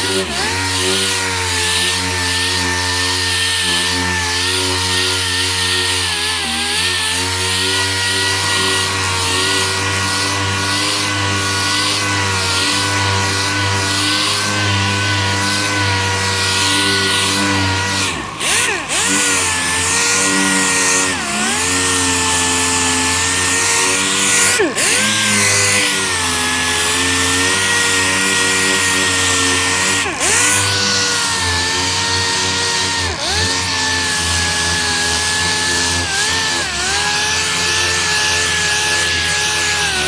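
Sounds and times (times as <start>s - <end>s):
sander whining and grinding: 0.0s - 40.0s.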